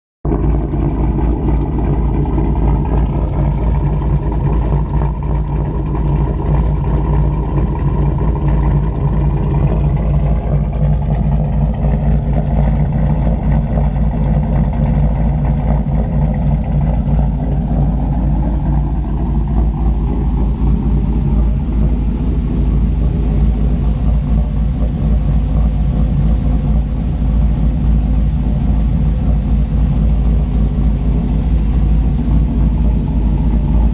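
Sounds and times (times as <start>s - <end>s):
truck engine idling with choppy lope: 0.2s - 33.9s.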